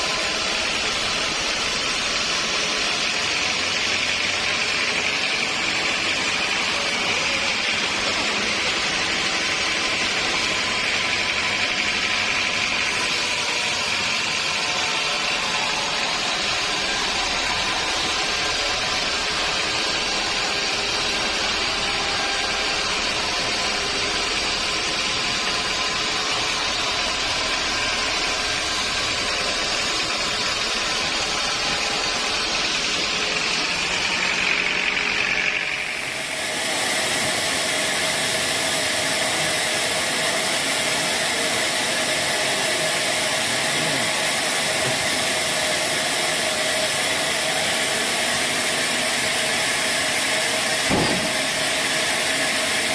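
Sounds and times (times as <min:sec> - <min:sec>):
sawmill saw droning and whining: 0:00.0 - 0:52.9.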